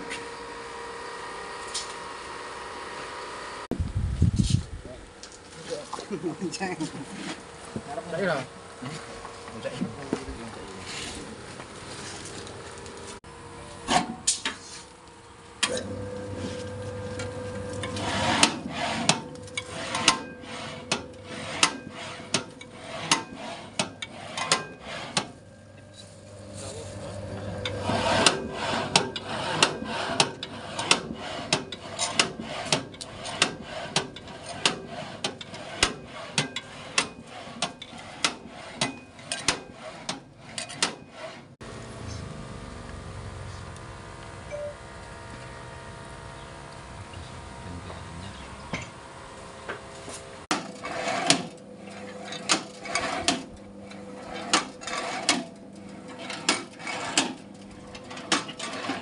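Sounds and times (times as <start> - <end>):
motor hum: 0.0 - 59.0.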